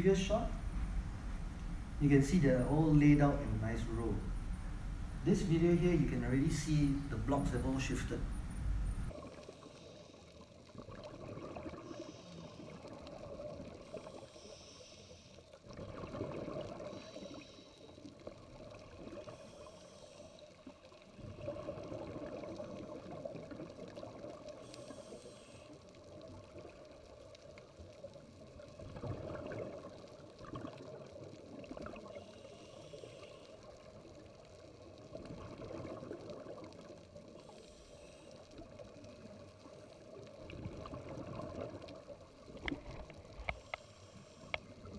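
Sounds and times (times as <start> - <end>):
underwater rushing water: 0.0 - 44.9.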